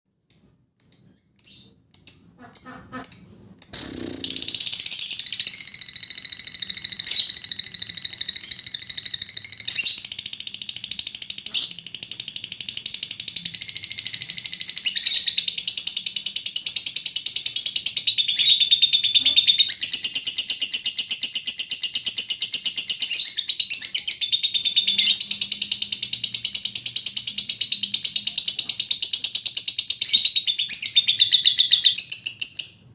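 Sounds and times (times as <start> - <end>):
lovebird chattering trill: 0.3 - 32.9.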